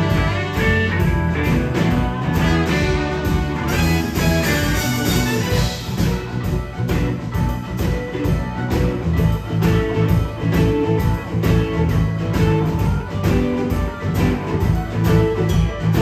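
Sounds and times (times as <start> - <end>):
blues band playing live: 0.0 - 16.0
electric guitar: 0.0 - 16.0.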